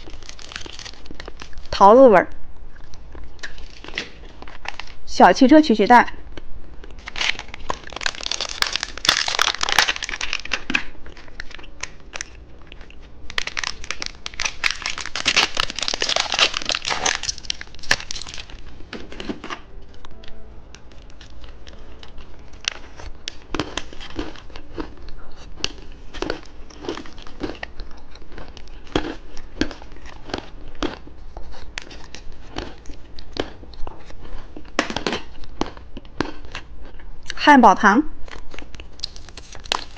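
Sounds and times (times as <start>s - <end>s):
plastic wrappers crinkling: 0.0s - 1.8s, 2.8s - 5.0s, 6.8s - 36.6s, 38.2s - 39.9s.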